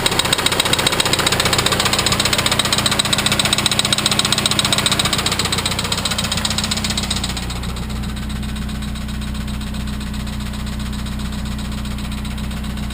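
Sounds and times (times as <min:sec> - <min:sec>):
engine idling hum: 0:00.0 - 0:12.9
engine knocking clatter: 0:00.0 - 0:12.9.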